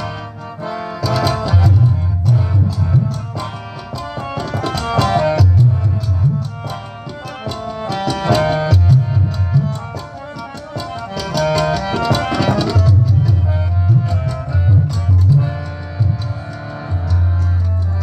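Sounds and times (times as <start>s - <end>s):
harmonium melody: 0.0s - 18.0s
tabla beats: 0.0s - 18.0s.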